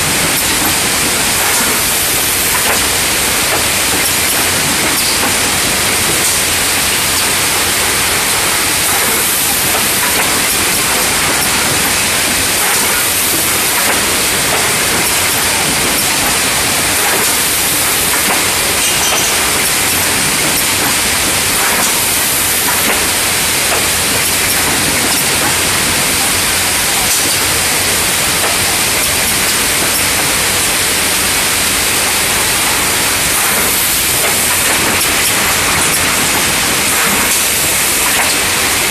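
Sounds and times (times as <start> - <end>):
machinery hissing: 0.0 - 38.9.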